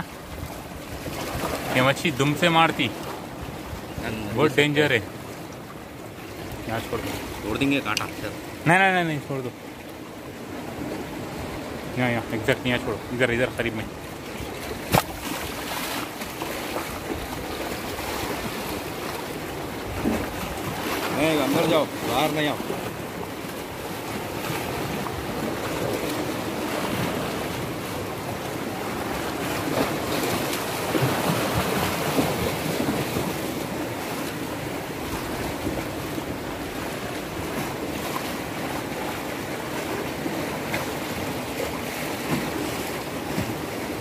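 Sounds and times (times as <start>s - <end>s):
surf splashing over rocks: 0.0s - 44.0s.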